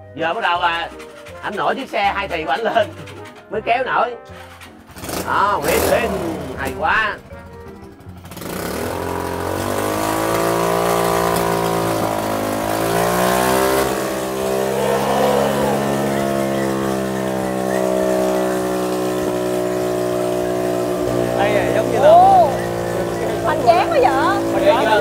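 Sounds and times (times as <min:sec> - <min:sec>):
two-stroke engine revving: 0:00.2 - 0:25.0.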